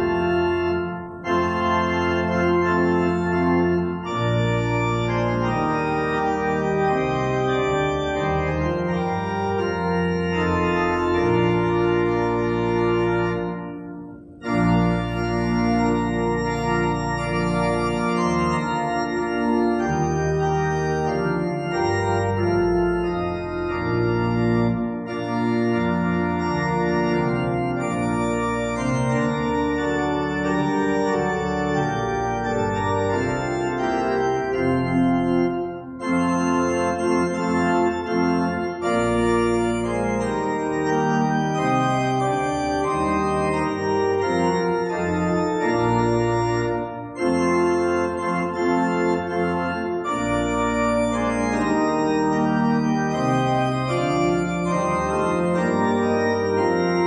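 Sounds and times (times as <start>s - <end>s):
church organ playing chords: 0.0s - 57.0s.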